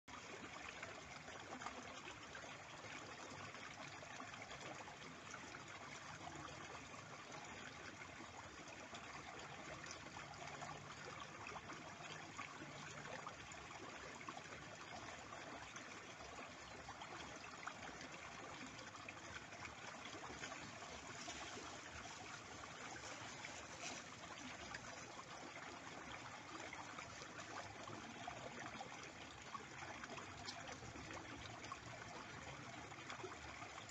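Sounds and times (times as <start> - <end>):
stream trickling: 0.0 - 33.9.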